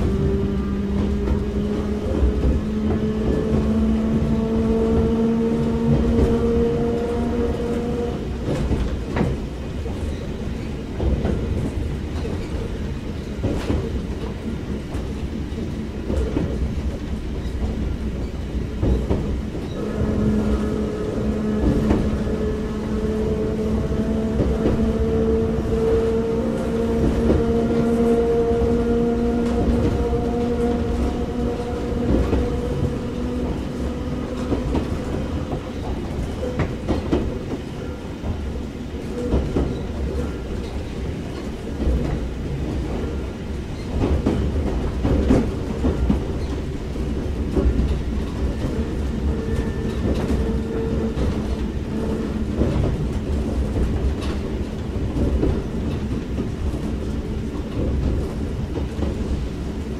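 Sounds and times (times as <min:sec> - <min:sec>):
rail-joint clicks: 0:00.0 - 0:59.9
wheel-on-rail rumble: 0:00.0 - 0:59.9.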